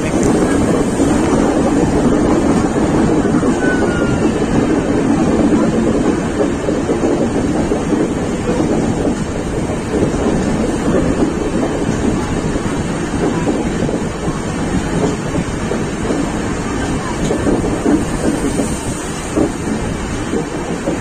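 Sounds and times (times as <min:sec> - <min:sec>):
train rumble: 0:00.0 - 0:21.0
wind buffeting microphone: 0:00.0 - 0:21.0.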